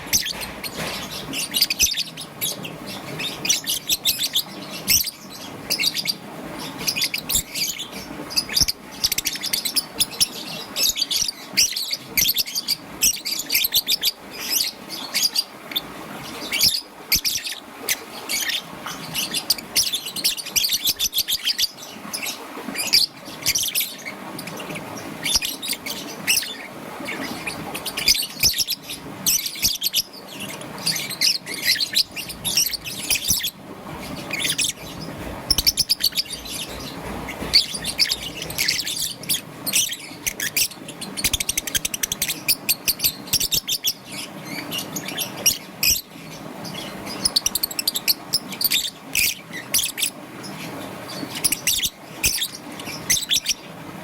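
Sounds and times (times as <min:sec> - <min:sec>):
lovebird chirping: 0:00.0 - 0:15.8, 0:16.4 - 0:50.1, 0:51.3 - 0:53.6.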